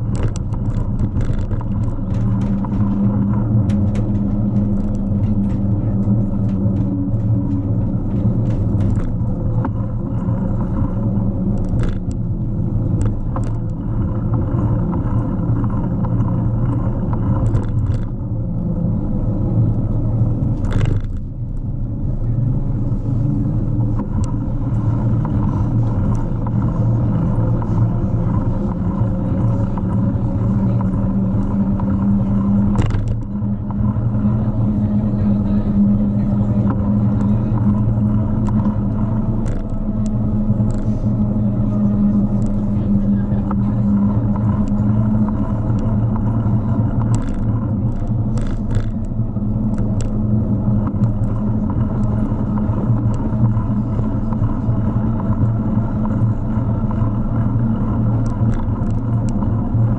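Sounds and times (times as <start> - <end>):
bicycle rolling rumble: 0.0 - 59.9.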